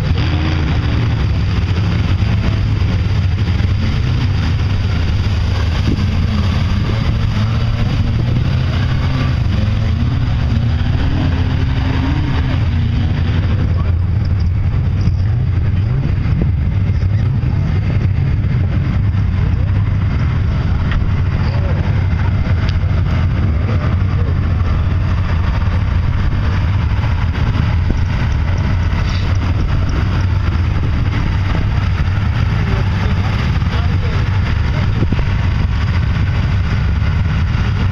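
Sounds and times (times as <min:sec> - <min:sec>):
truck engine revving: 0:00.0 - 0:37.9.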